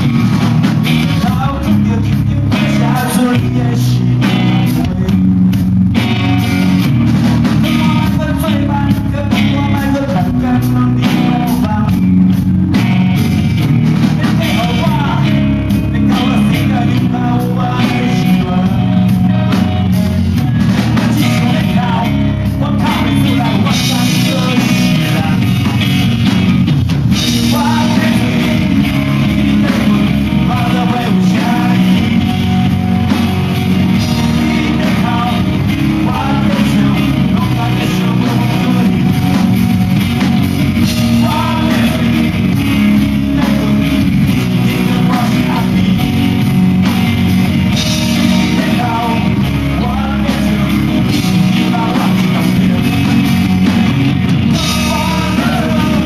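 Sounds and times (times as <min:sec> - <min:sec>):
distorted electric guitar: 0:00.0 - 0:56.0
drum kit playing: 0:00.0 - 0:56.0
person singing: 0:01.0 - 0:05.4, 0:07.5 - 0:12.2, 0:14.1 - 0:25.9, 0:27.2 - 0:33.1, 0:33.8 - 0:39.5, 0:40.8 - 0:53.4, 0:54.5 - 0:56.0.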